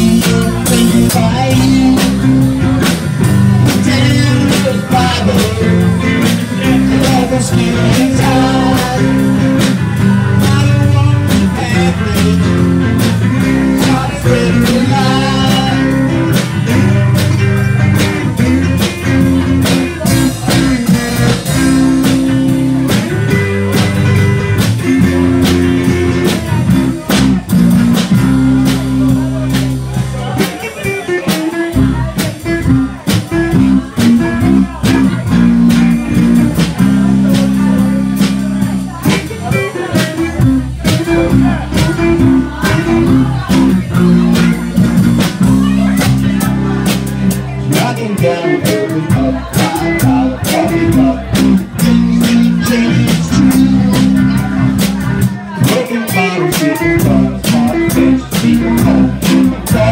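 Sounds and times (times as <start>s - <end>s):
drum kit beat: 0.0s - 59.9s
electric bass: 0.0s - 59.9s
electric guitars: 0.0s - 59.9s.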